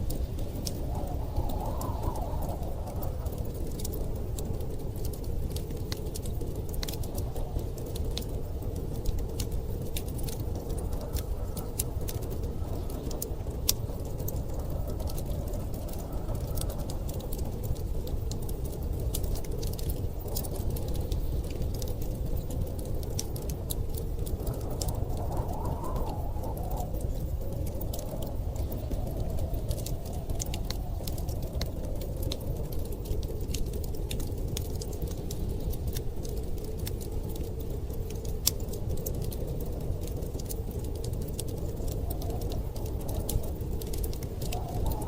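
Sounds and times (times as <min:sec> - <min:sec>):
storm wind rushing: 0:00.0 - 0:45.0
wood fire crackling: 0:00.0 - 0:45.0.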